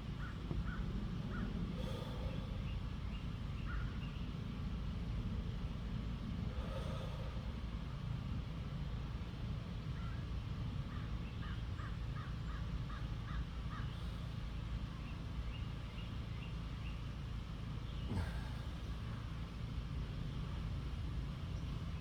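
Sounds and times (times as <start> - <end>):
steady low rumble: 0.0 - 12.1, 12.7 - 22.0.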